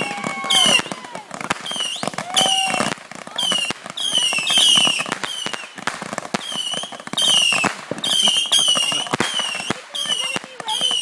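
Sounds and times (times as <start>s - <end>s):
fireworks high whistles: 0.0s - 11.0s
fireworks pops and crackles: 0.0s - 11.0s.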